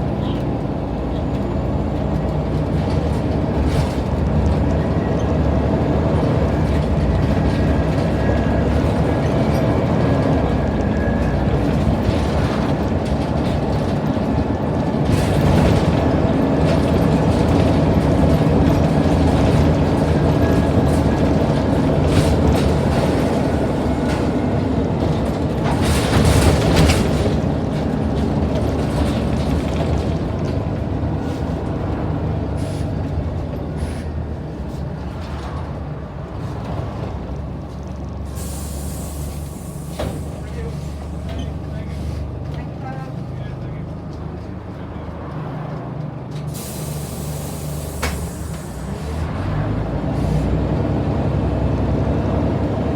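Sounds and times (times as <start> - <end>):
bus engine hum: 0.0 - 52.9
road rumble: 0.0 - 52.9.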